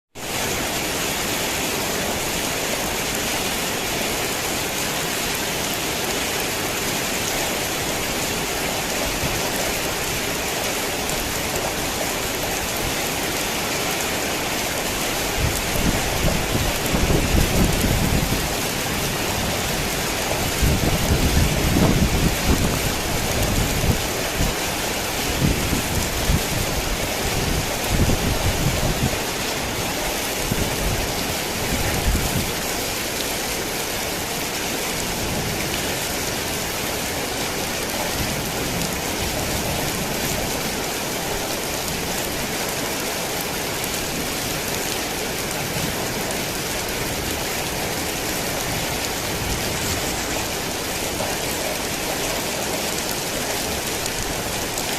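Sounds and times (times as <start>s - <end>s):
heavy rain falling: 0.2s - 54.9s.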